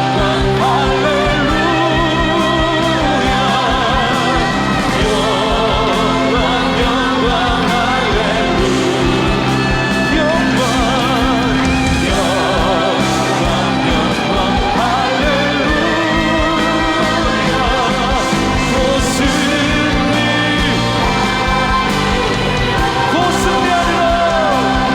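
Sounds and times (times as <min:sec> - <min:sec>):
singers holding long notes: 0:00.0 - 0:24.9
worship band playing: 0:00.0 - 0:24.9.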